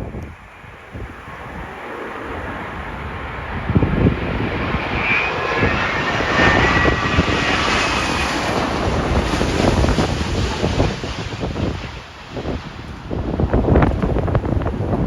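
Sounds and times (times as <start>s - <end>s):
jet airliner engines roaring: 0.0s - 15.0s
wind buffeting microphone: 0.0s - 15.0s.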